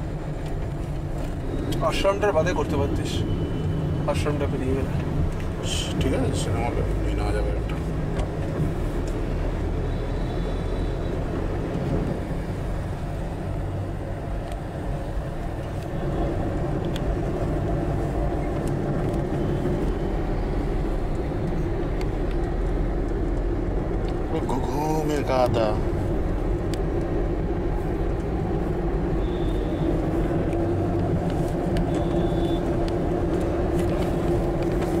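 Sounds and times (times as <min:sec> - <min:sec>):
vehicle rumbling in motion: 0:00.0 - 0:35.0.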